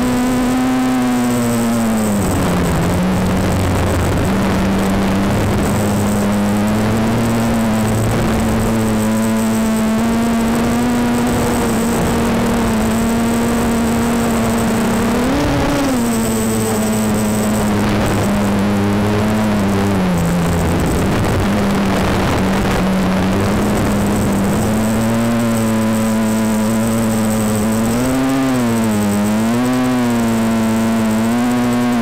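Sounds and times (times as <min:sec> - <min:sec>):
quadcopter motors humming: 0:00.0 - 0:32.0.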